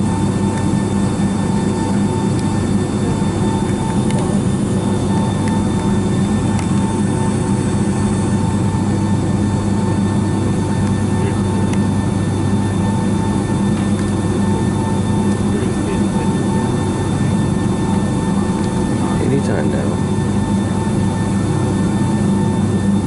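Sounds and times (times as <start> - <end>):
jet engines running at low power: 0.0 - 23.0
steady humming tones: 0.0 - 23.0.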